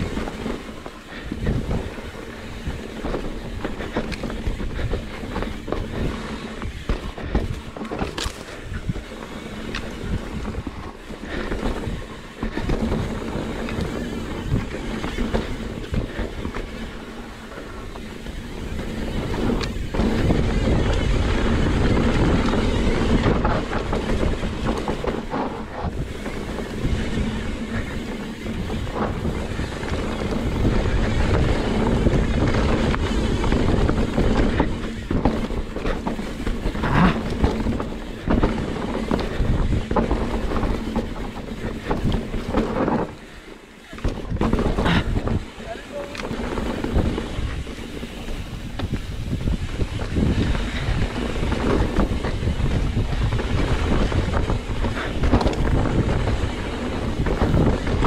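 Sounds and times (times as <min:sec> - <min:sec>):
bike knocks and rattles: 0:00.0 - 0:58.0
bike tyres rolling on dirt: 0:00.0 - 0:58.0
wind noise on microphone: 0:00.0 - 0:58.0.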